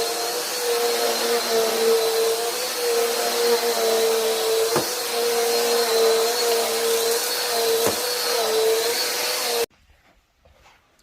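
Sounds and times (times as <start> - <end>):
vacuum cleaner on carpet: 0.0 - 9.7.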